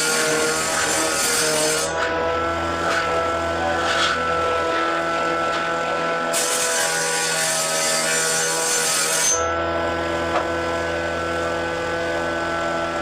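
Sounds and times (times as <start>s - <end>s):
power tool motor hum: 0.0s - 13.0s
wood cutting or sanding noise: 0.0s - 13.0s.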